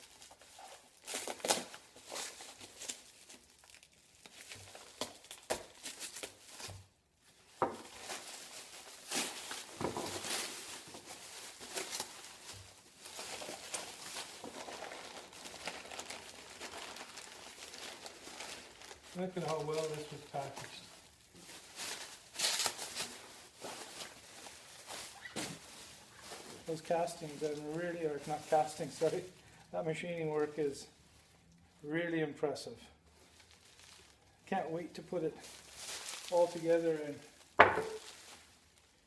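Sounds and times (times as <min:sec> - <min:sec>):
packaging crinkling and rustling: 0:00.0 - 0:29.5, 0:33.1 - 0:39.0.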